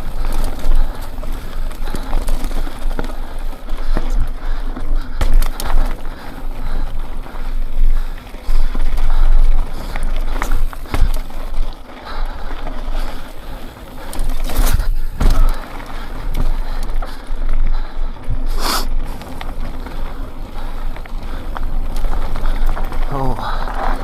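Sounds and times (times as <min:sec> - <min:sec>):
tyres crunching on rock: 0:00.0 - 0:17.3, 0:18.3 - 0:24.0
bike rattling and knocking: 0:00.0 - 0:24.0.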